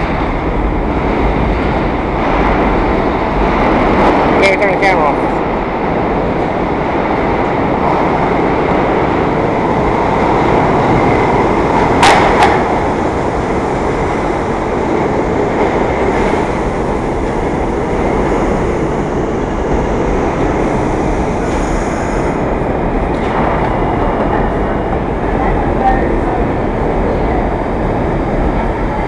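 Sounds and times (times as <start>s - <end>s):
subway train wheels rumbling: 0.0s - 29.0s.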